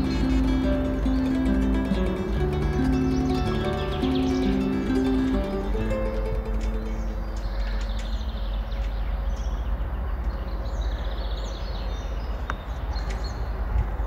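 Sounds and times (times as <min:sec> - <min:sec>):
low rumbling noise: 0:00.0 - 0:14.0
small birds chirping: 0:00.0 - 0:14.0.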